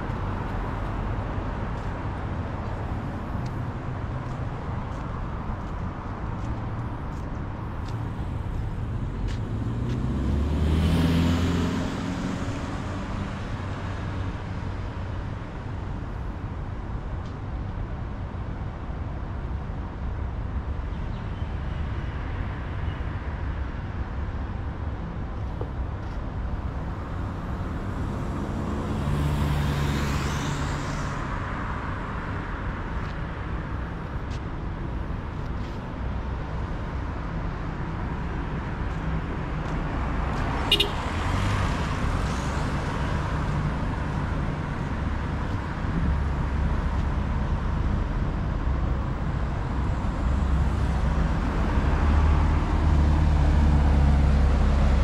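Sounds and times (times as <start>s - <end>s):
cars passing by: 0.0s - 55.0s
traffic rumble: 0.0s - 55.0s.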